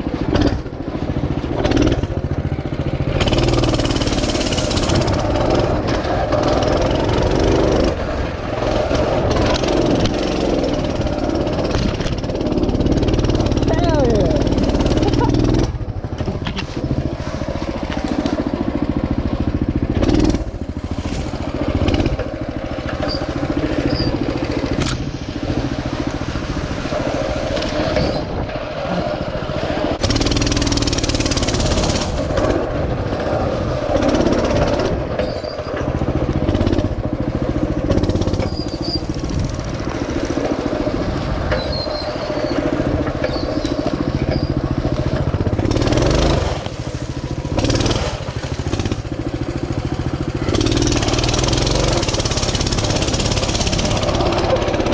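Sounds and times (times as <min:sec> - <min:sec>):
rush of noise: 0:00.0 - 0:49.2
mini bike engine revving: 0:00.0 - 0:54.9.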